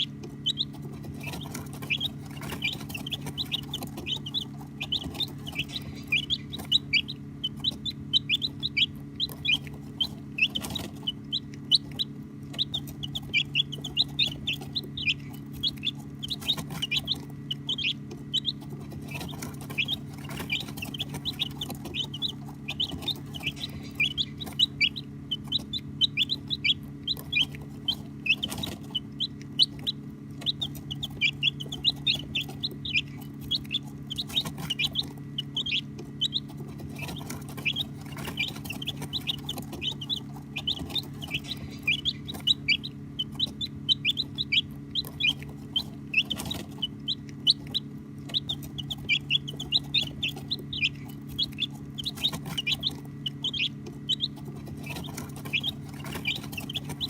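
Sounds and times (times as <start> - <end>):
baby chicks peeping: 0.0 - 57.0
steady low hum: 0.0 - 57.0.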